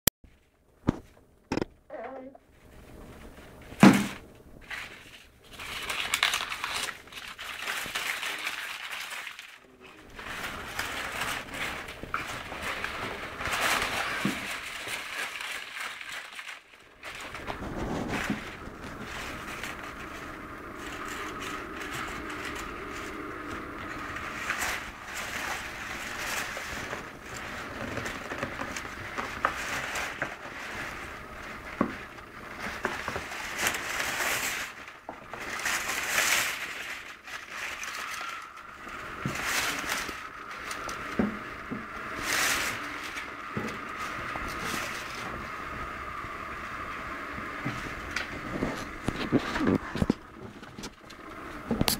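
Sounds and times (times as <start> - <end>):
paper and cardboard rustling: 0.3 - 51.9.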